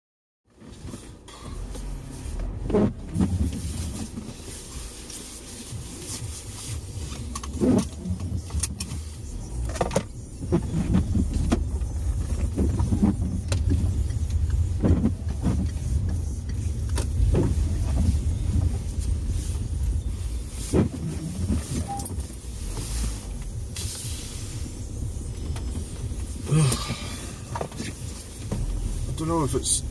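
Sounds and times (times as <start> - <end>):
car engine and tyres rumbling: 0.4 - 29.9
tyres hissing on wet road: 0.8 - 8.2, 10.2 - 29.9.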